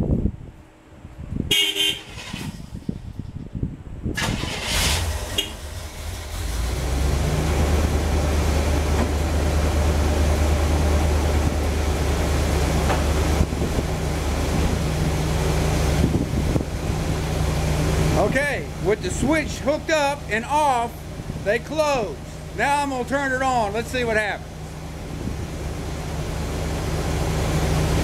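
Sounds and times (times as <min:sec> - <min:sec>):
car engine idling: 0:04.3 - 0:28.0.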